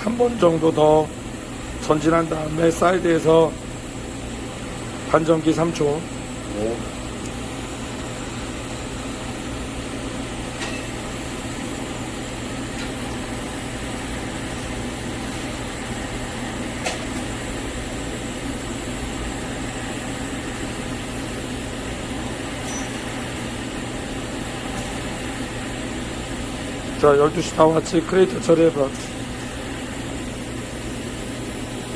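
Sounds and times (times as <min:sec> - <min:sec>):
welding arc hum and hiss: 0:00.0 - 0:31.9
welding machine drone: 0:00.0 - 0:31.9.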